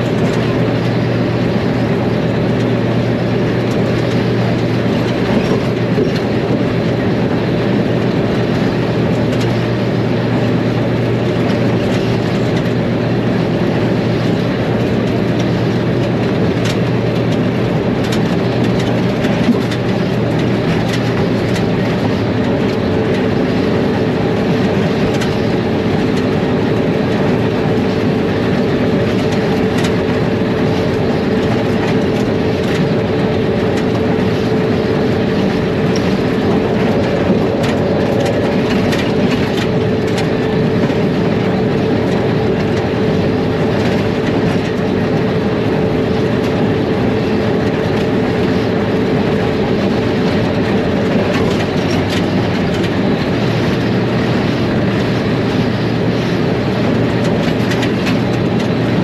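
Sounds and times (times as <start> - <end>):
diesel locomotive engine drone: 0.0 - 59.0
wheels clicking on track: 0.0 - 59.0.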